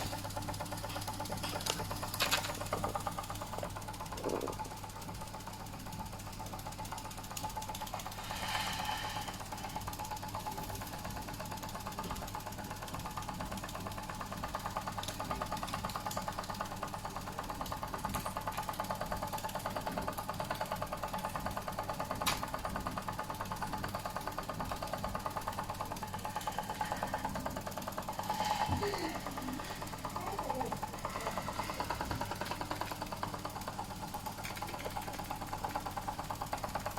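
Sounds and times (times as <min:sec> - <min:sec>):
model steam engine running: 0:00.0 - 0:36.9.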